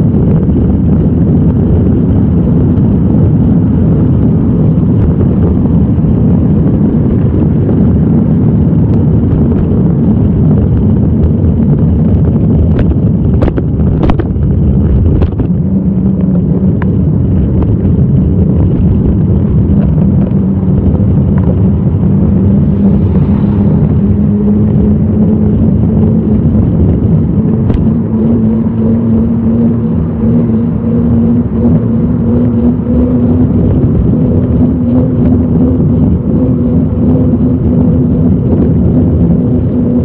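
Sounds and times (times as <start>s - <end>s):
steady low hum: 0.0s - 40.0s
wind and road noise: 0.0s - 40.0s.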